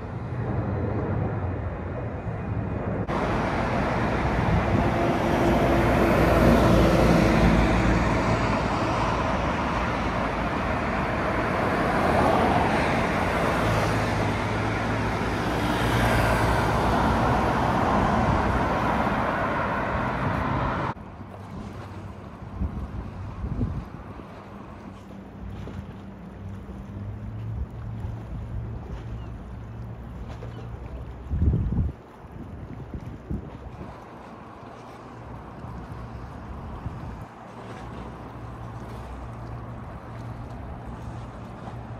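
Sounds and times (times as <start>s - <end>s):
road traffic noise: 0.0s - 30.8s, 34.1s - 41.9s
low engine hum: 0.0s - 41.9s.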